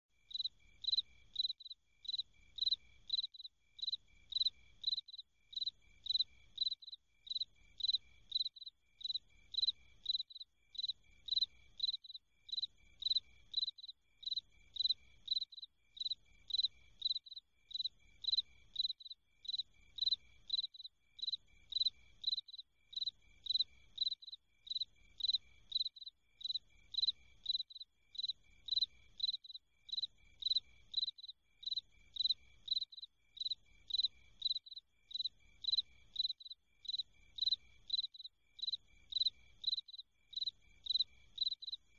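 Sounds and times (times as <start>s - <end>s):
insect chirping: 0.3s - 41.9s.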